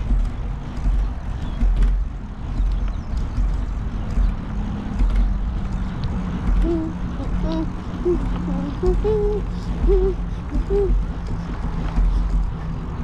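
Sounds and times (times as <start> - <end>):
bike clicks and rattles: 0.0 - 13.0
wind rumbling on microphone: 0.0 - 13.0.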